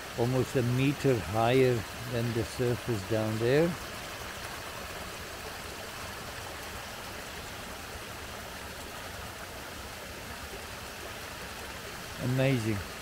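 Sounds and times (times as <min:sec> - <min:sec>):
water spilling over weir: 0:00.0 - 0:13.0.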